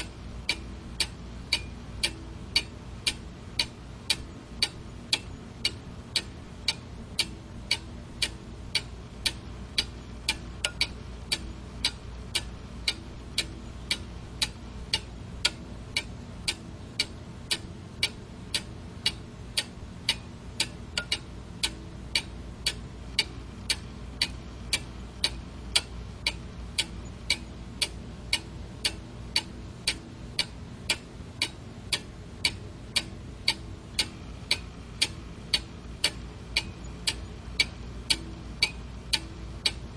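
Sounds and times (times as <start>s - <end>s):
alarm clock ticking: 0.0s - 39.8s.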